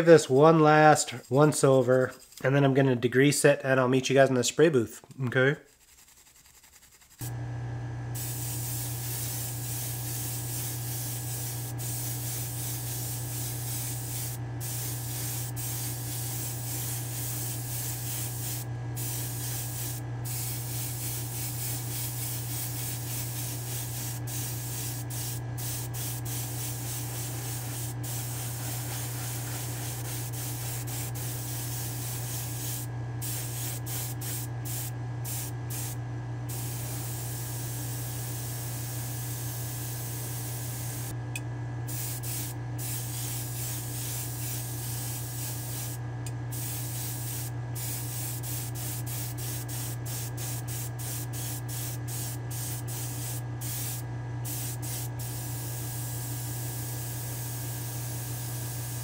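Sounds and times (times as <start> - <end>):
fan humming low: 7.2 - 59.0
airbrush spraying hiss: 8.2 - 41.1, 41.9 - 59.0.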